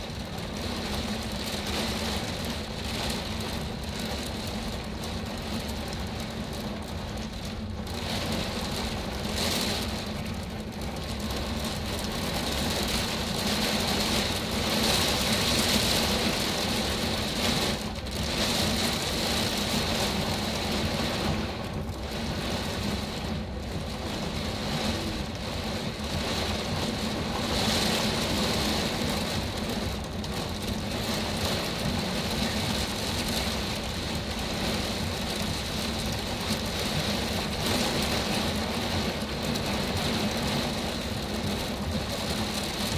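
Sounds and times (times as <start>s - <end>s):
rain: 0.0s - 42.9s.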